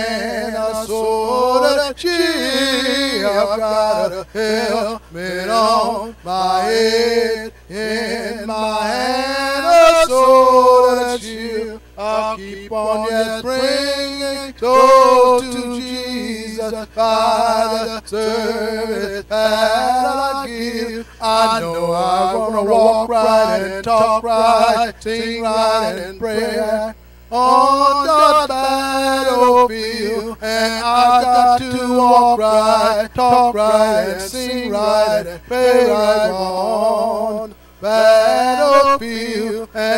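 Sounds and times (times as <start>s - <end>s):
man singing a hymn: 0.0s - 39.9s.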